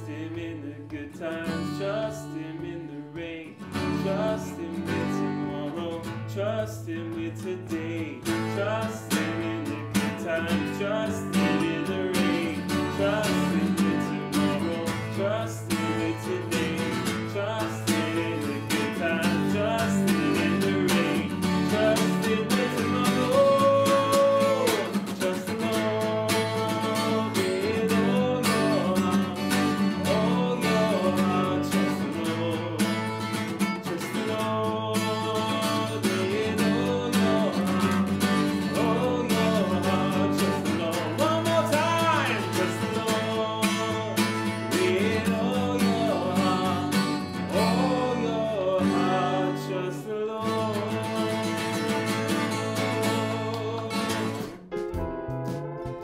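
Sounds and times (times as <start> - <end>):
singing worship song: 0.0 - 54.6
acoustic guitar strumming: 0.0 - 56.0.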